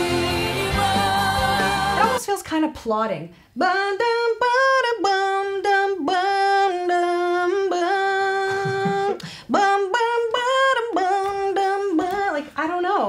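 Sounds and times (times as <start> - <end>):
woman singing unaccompanied: 0.0 - 2.4, 3.6 - 13.0.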